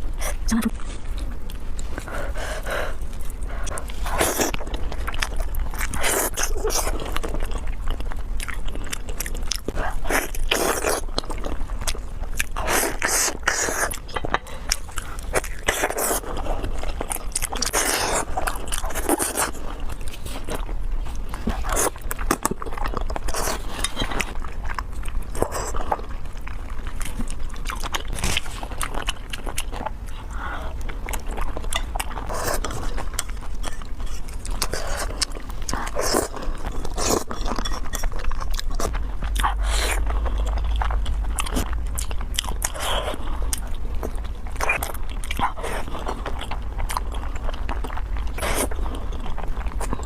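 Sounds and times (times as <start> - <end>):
food crunching: 0.6 - 50.0
biting and chewing: 0.7 - 50.0.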